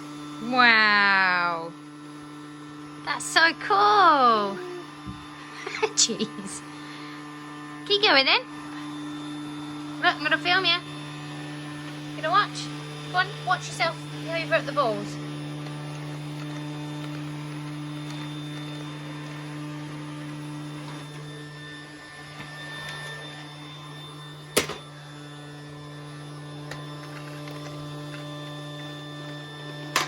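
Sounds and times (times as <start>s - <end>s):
toy vacuum cleaner motor humming: 0.0s - 30.0s.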